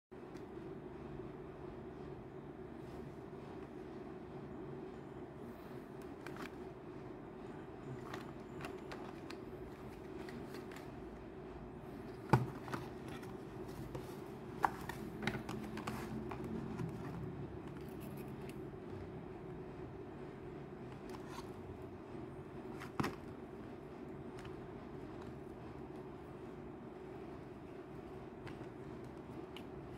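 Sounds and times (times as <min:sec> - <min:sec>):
low background hum: 0:00.1 - 0:29.9.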